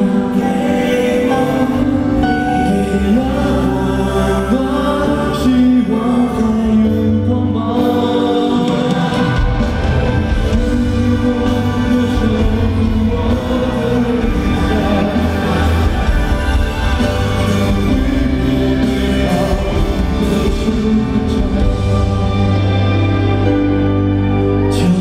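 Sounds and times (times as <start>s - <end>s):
man singing into microphone: 0.0s - 22.1s, 24.6s - 25.0s
live pop band music: 0.0s - 25.0s.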